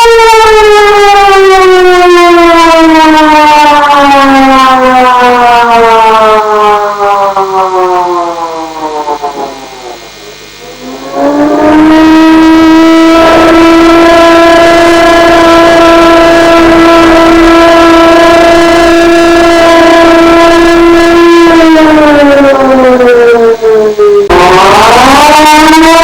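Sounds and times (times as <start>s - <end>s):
distorted civil defense siren wailing: 0.0s - 26.0s.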